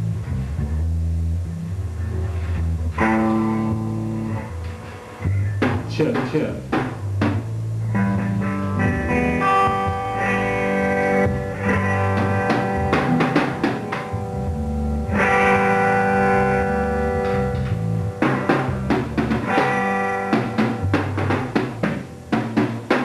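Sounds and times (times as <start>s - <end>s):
amplified guitar chords: 0.0s - 23.0s.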